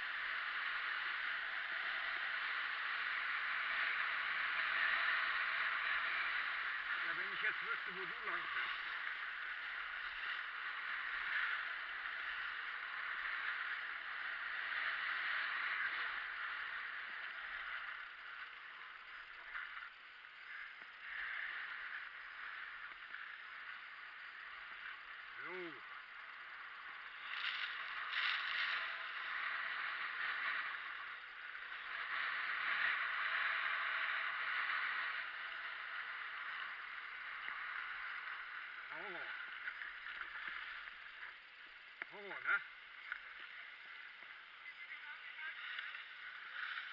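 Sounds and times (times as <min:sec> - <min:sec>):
skis scraping over snow: 0:00.0 - 0:46.9.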